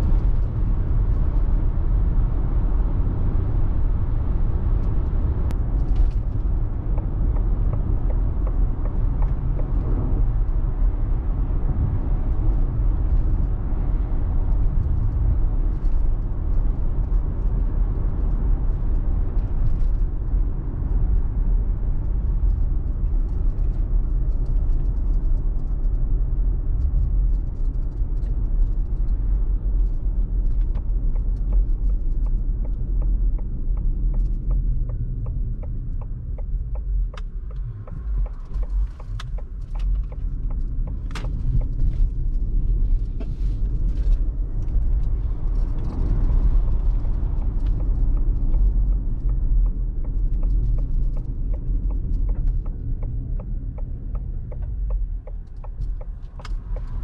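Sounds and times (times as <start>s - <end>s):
tyre rumble on road: 0.0s - 57.0s
wind noise inside car: 0.0s - 57.0s.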